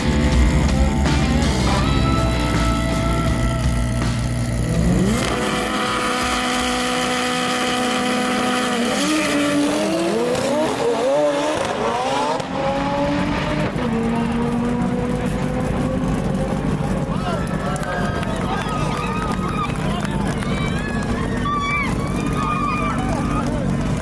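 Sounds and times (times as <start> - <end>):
drag car engine at full throttle: 0.0 - 24.0.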